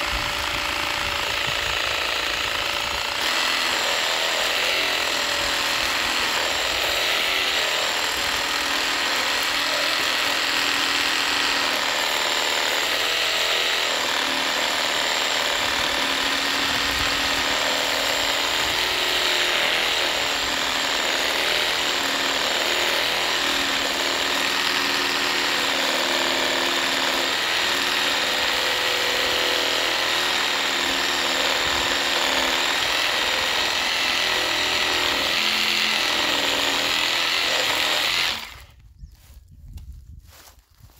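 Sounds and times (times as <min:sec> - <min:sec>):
reciprocating saw cutting log: 0:00.0 - 0:38.8.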